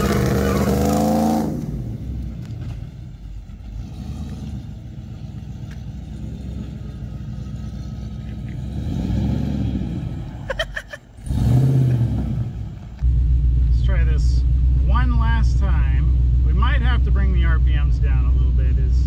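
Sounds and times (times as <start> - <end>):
car engine idling rumble: 0.0 - 19.0.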